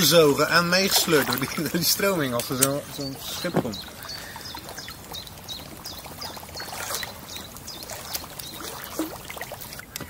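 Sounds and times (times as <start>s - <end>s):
water lapping around kayak: 0.0s - 10.0s
bird chirping: 0.6s - 10.0s.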